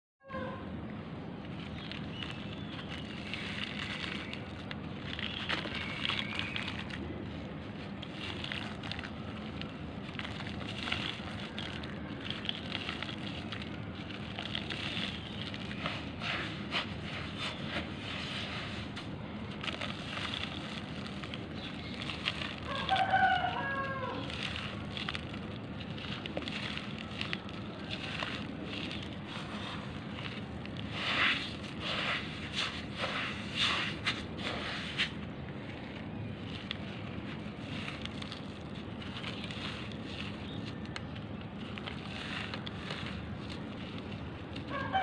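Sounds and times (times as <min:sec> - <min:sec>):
charcoal crunching and crackling: 0:00.3 - 0:45.0.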